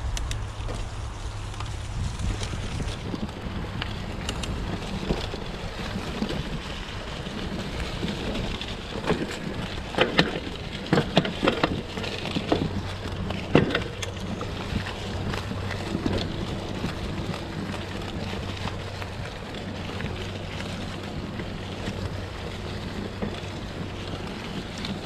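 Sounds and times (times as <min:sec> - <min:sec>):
bike rattling over rough ground: 0:00.0 - 0:25.0
bike tyres rustling through leaves: 0:00.0 - 0:25.0.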